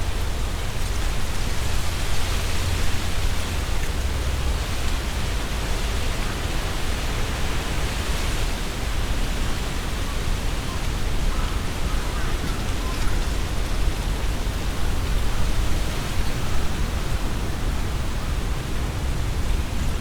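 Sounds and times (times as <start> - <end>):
leaves rustling in strong wind: 0.0 - 20.0.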